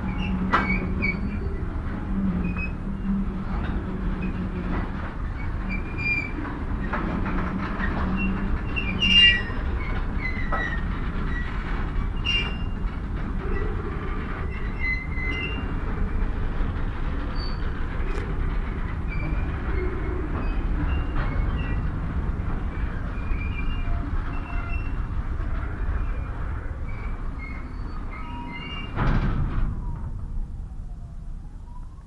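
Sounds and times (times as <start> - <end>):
wheel squeals on rails: 0.0 - 30.0
train cars rumbling: 0.0 - 31.8.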